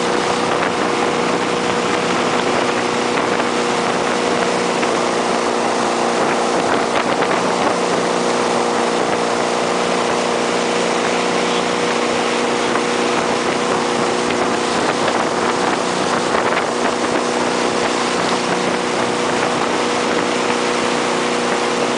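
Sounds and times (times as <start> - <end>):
boat engine humming: 0.0 - 21.9
churning water: 0.0 - 21.9
wind on microphone: 0.0 - 21.9.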